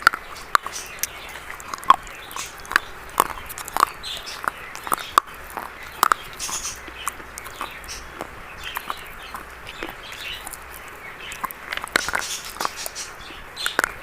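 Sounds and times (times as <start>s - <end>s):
biscuits crunching: 0.0s - 14.0s
low steady hum: 0.0s - 14.0s.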